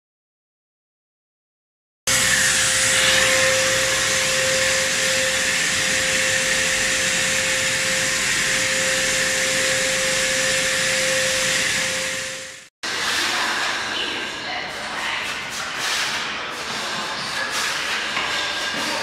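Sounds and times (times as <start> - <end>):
vacuum cleaner running: 2.1 - 19.0.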